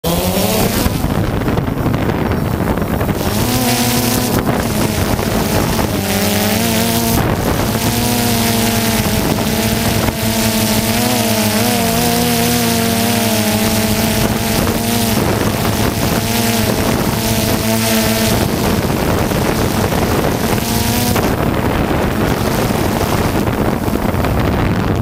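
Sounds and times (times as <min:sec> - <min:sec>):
drone propellers buzzing: 0:00.0 - 0:25.0
wind on microphone: 0:00.0 - 0:25.0.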